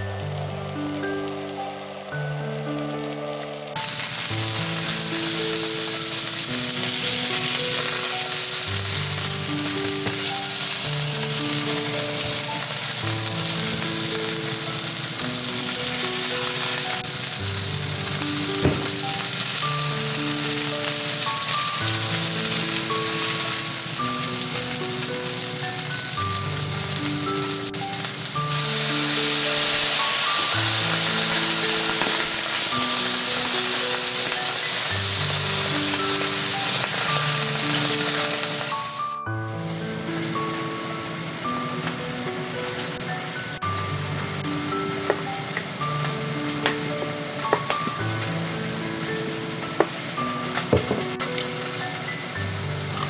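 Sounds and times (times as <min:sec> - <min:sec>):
gentle background music: 0:00.0 - 0:53.0
liquid steaming in hot pan: 0:00.0 - 0:53.0
patty sizzling in a frying pan: 0:00.0 - 0:53.0.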